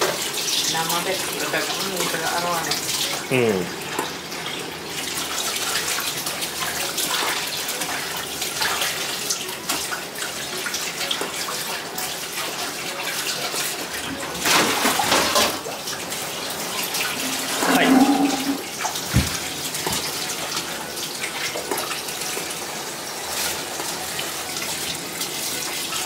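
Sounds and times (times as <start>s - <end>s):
water running from tap into sink: 0.0s - 26.0s.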